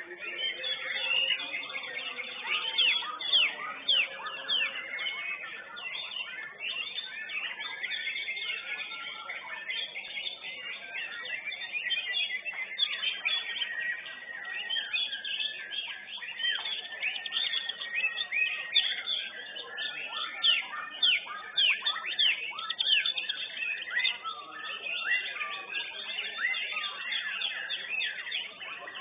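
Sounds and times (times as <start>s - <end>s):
birds singing whistles and trills: 0.0s - 29.0s.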